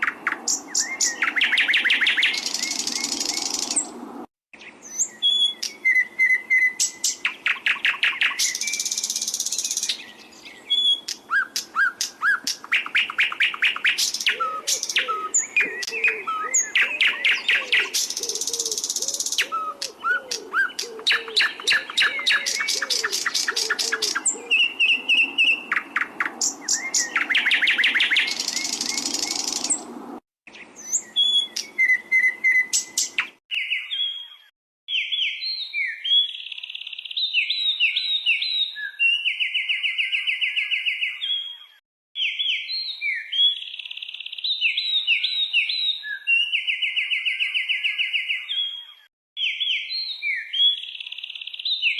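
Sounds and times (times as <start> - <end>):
songbird singing trills and whistles: 0.0 - 4.0, 4.6 - 29.9, 30.5 - 51.9.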